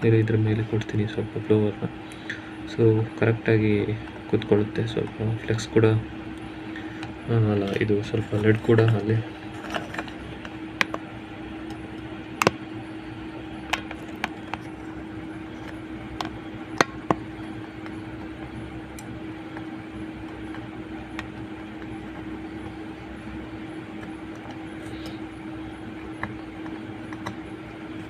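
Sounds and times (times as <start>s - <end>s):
hot-air blower humming: 0.0s - 28.0s.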